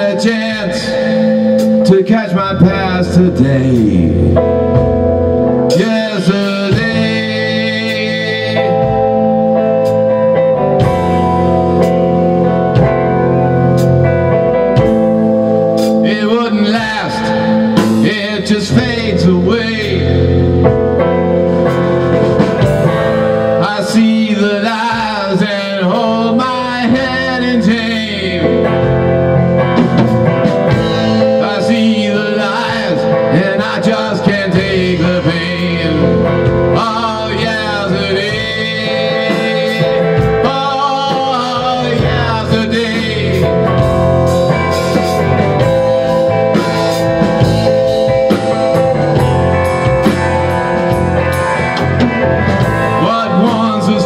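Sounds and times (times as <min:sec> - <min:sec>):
blues-rock band playing: 0:00.0 - 0:54.0
lead guitar bending melodic lines: 0:00.0 - 0:54.0.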